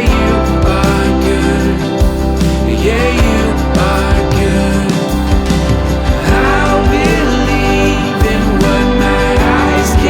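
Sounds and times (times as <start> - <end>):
worship song with band: 0.0 - 10.0.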